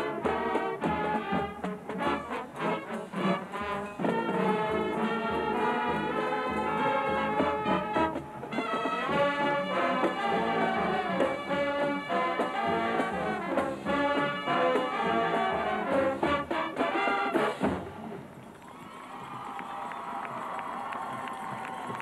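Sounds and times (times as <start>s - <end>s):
marching band brass chords: 0.0s - 18.4s.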